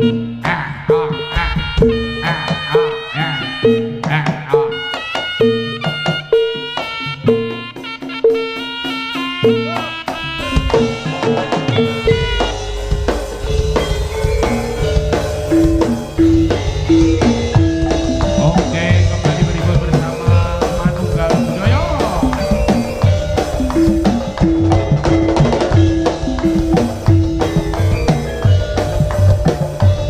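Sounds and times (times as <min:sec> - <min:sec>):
drums beating: 0:00.0 - 0:30.0
repeating pitched notes: 0:00.0 - 0:30.0.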